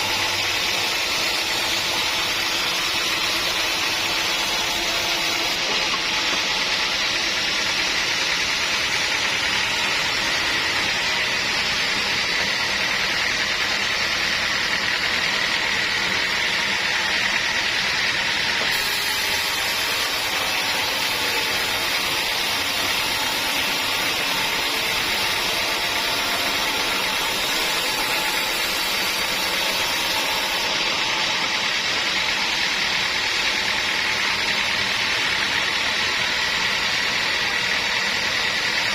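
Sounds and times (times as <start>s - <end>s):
sawmill machinery hiss and hum: 0.0s - 38.9s.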